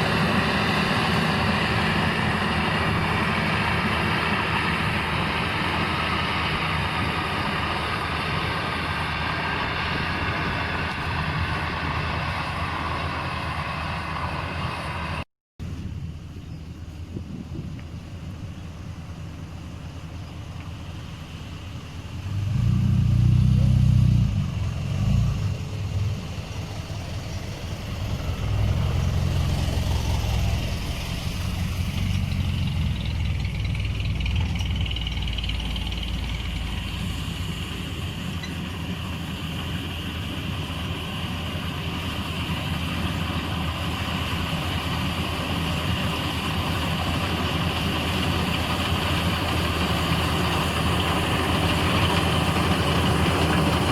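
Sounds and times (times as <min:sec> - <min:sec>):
combine harvester engine running: 0:00.0 - 0:53.9.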